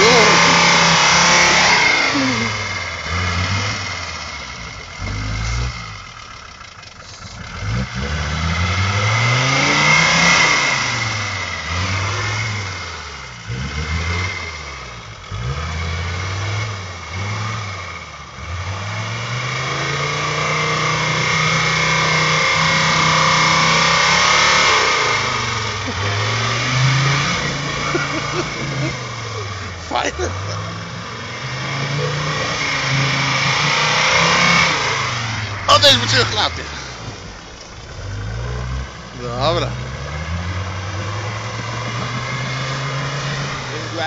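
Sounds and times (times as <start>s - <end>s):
engine revving hard: 0.0s - 6.2s, 7.4s - 44.0s.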